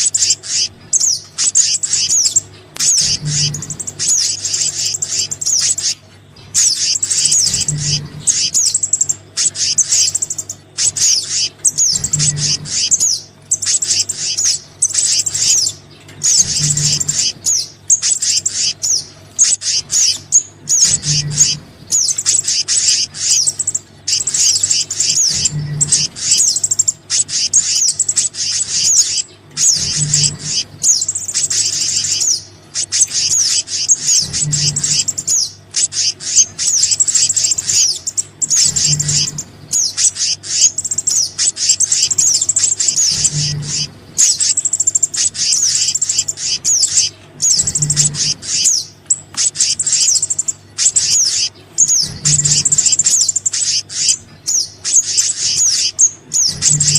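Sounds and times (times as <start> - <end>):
small birds chirping and trilling: 0.0 - 56.9.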